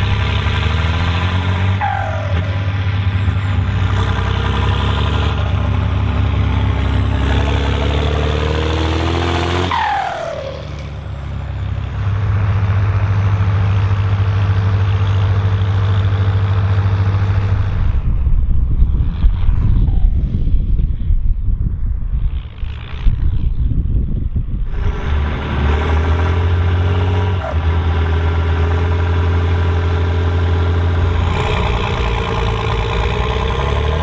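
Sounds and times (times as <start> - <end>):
tractor engine under load: 0.0 - 19.9, 24.4 - 34.0.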